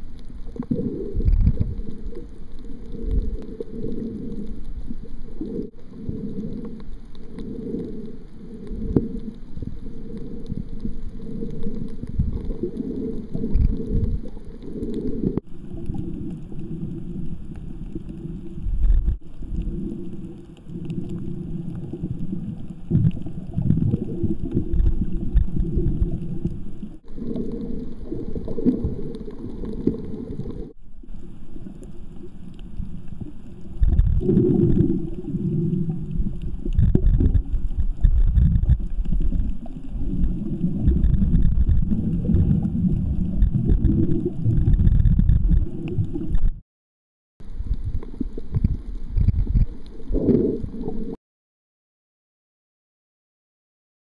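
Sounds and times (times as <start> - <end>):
muffled underwater rumbling: 0.0 - 46.6, 47.4 - 51.2.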